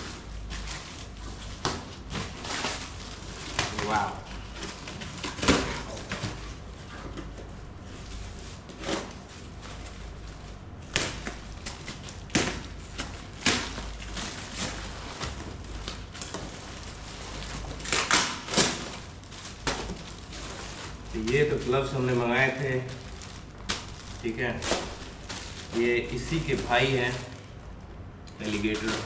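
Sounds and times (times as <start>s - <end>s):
packaging rustling and crinkling: 0.0s - 29.0s.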